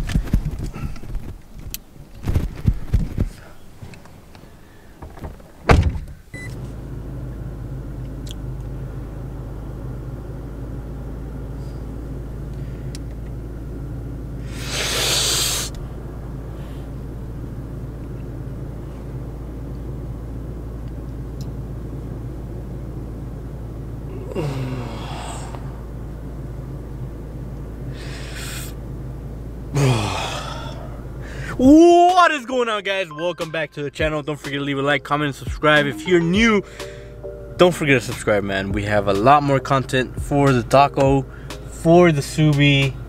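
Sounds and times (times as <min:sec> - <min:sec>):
pickup engine idling: 0:00.0 - 0:33.1, 0:33.9 - 0:43.0.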